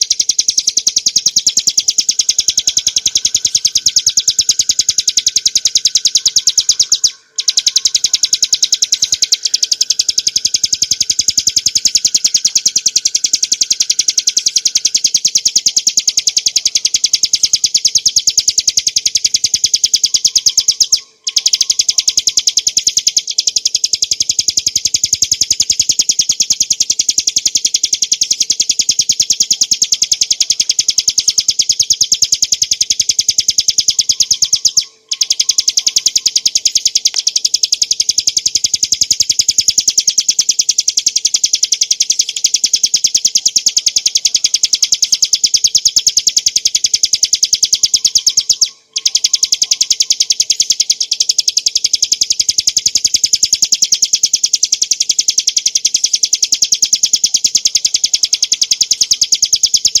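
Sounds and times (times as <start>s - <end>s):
bird singing rapid chattering notes: 0.0s - 60.0s.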